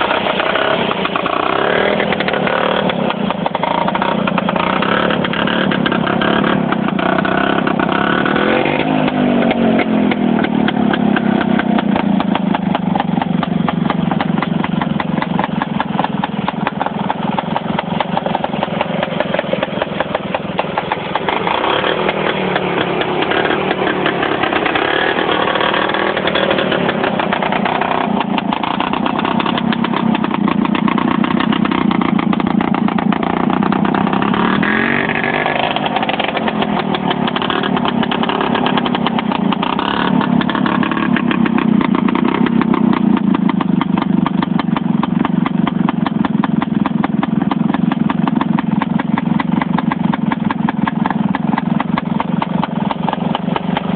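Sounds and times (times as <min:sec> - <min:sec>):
small tractor engine running: 0:00.0 - 0:53.9.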